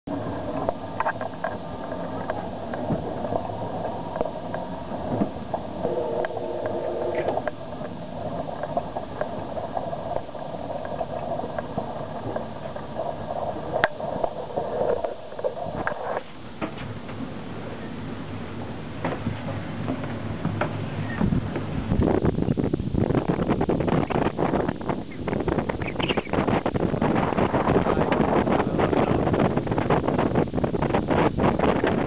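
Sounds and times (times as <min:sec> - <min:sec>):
water rushing along hull: 0:00.1 - 0:32.0.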